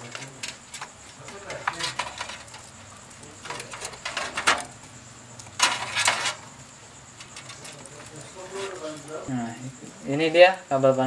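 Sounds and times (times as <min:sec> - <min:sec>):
cables rustling and plugs clicking: 0:00.0 - 0:10.7.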